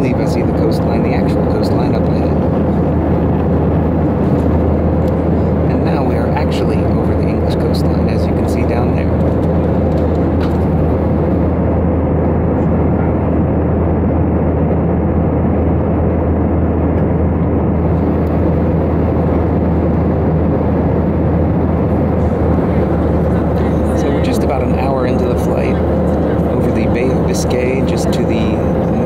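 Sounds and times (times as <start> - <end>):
airplane cabin noise: 0.0 - 29.0.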